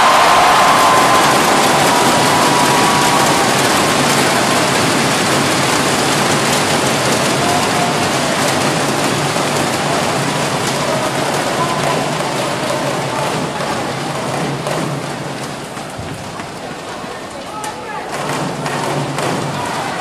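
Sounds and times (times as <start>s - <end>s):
crowd applauding and cheering: 0.0s - 16.9s, 18.2s - 20.0s.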